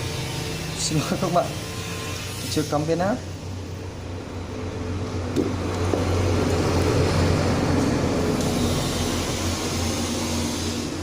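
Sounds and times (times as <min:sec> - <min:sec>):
rushing fan-like noise: 0:00.0 - 0:11.0.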